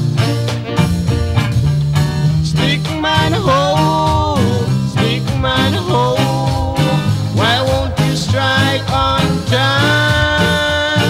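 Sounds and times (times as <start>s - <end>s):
song with bass line and melody: 0.0s - 11.0s.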